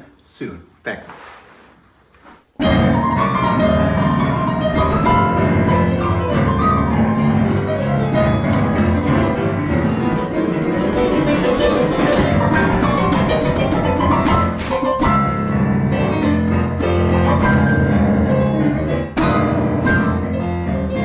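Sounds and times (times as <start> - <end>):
piano music: 2.6 - 21.0.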